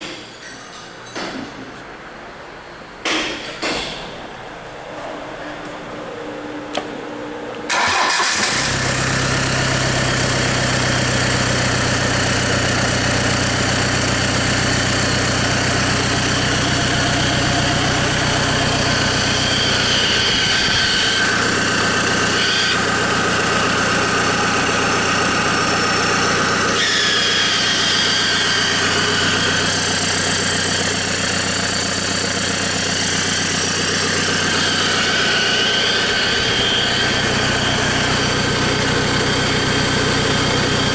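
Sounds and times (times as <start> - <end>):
diesel engine starting and idling: 7.7 - 40.9.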